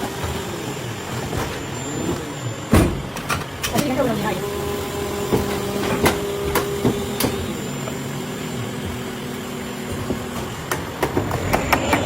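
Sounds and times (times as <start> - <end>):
factory machinery humming: 0.0 - 12.0.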